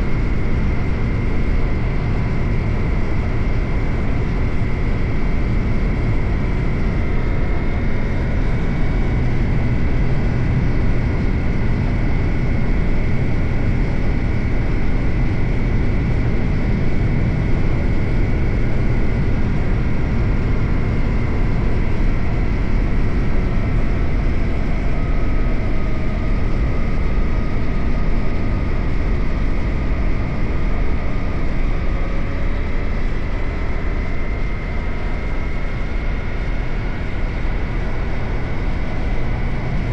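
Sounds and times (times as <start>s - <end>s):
heavy wind: 0.0s - 39.9s.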